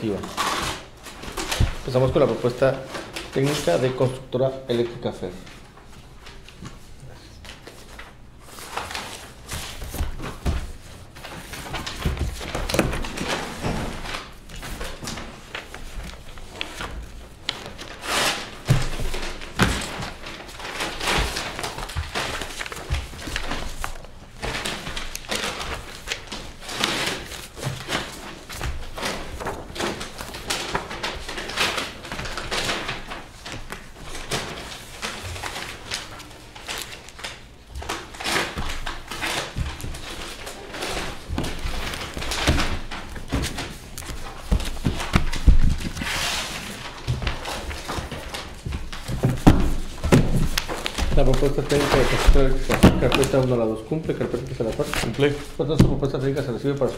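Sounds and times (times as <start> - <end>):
paper pages rustling: 0.0 - 4.4, 5.0 - 56.9.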